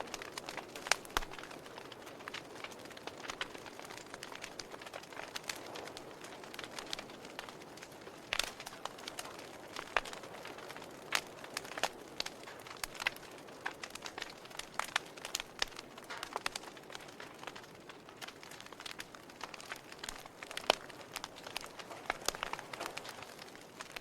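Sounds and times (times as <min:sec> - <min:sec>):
burning wood hiss: 0:00.0 - 0:24.0
campfire crackling and popping: 0:00.0 - 0:24.0.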